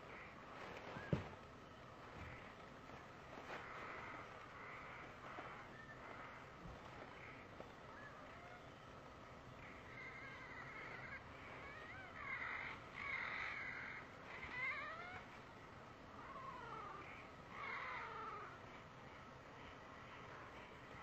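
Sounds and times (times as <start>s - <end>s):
low background noise: 0.0s - 21.0s
wavering animal calls: 0.0s - 21.0s.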